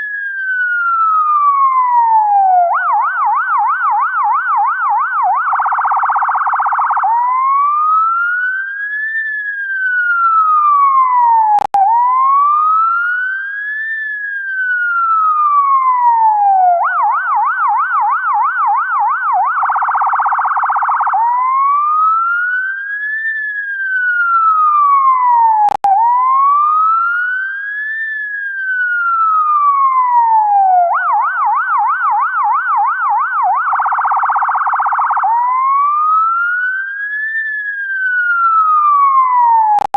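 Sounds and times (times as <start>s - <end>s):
ambulance siren wailing and yelping: 0.0s - 39.9s.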